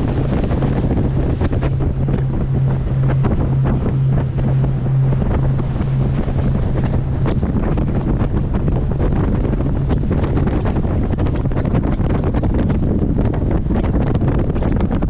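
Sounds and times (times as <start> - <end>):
boat engine humming: 0.0 - 15.0
water rushing past boat: 0.0 - 15.0
wind buffeting microphone: 0.0 - 15.0.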